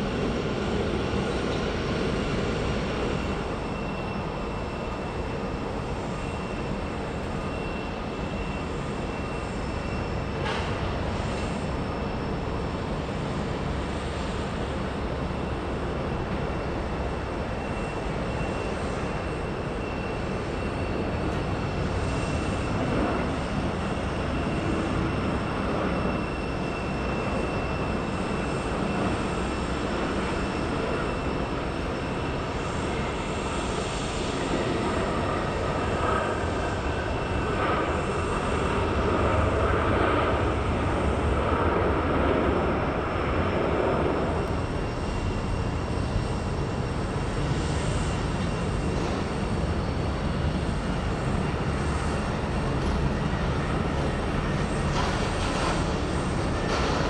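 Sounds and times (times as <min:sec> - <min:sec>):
jet engine noise: 0:00.0 - 0:57.0.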